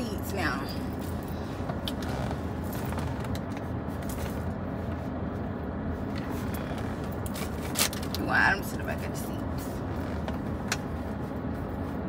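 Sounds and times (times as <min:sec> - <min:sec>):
car engine idling: 0:00.2 - 0:12.0.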